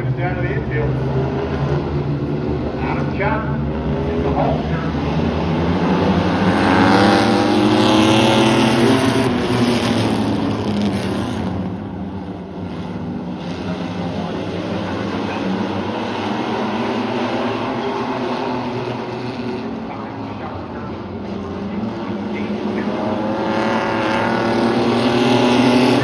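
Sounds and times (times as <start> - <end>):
race trucks racing past: 0.0 - 26.0.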